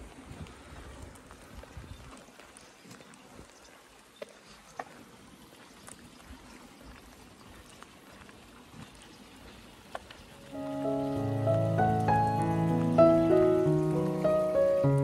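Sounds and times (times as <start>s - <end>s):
stream running water: 0.0s - 15.0s.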